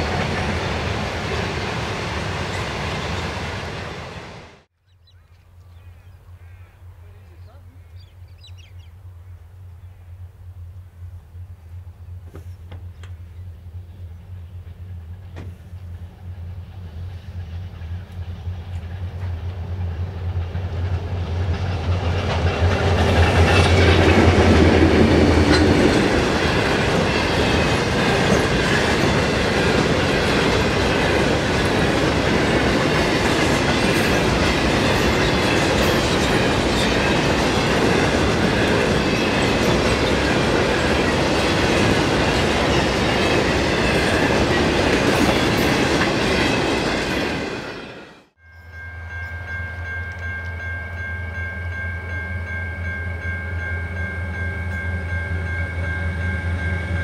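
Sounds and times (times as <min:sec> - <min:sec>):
freight wagons rumbling past: 0:00.0 - 0:04.7, 0:12.8 - 0:57.0
diesel locomotive engines droning: 0:00.0 - 0:57.0.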